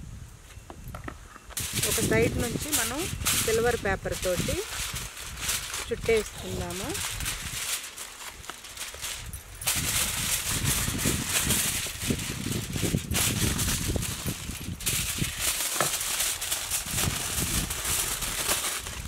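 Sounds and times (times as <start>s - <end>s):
aluminium foil crinkling: 1.5s - 19.0s.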